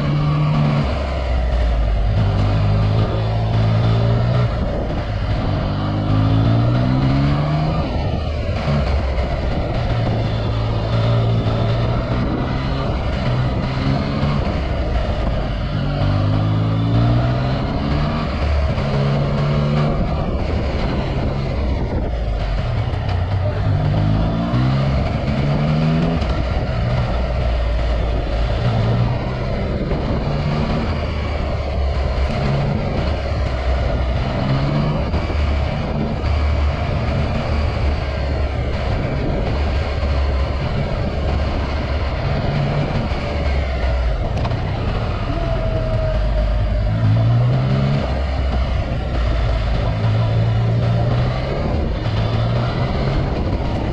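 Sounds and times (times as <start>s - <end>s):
motorcycle engine revving through gears: 0.0s - 53.9s
wind noise: 0.0s - 53.9s.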